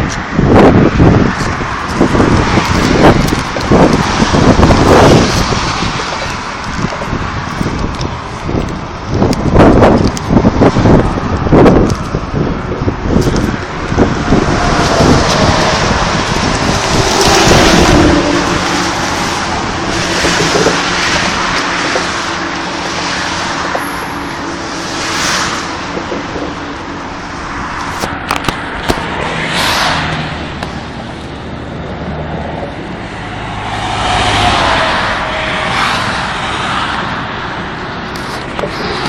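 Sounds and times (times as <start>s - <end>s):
cars and trucks passing: 0.0s - 39.0s.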